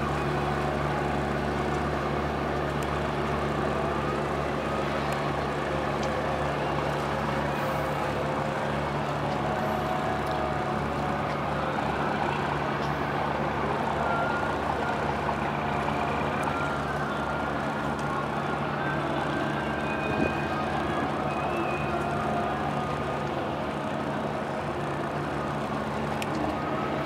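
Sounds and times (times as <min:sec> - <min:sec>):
ship engines humming: 0:00.0 - 0:27.0.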